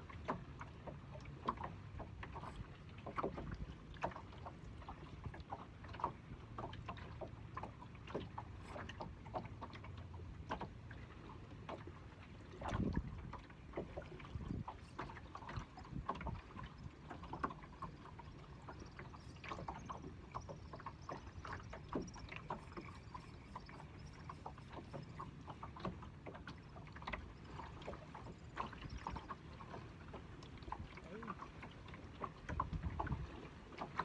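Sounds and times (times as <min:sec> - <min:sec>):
small knocks and drips: 0:00.0 - 0:34.0
water lapping against boat hull: 0:00.0 - 0:34.0.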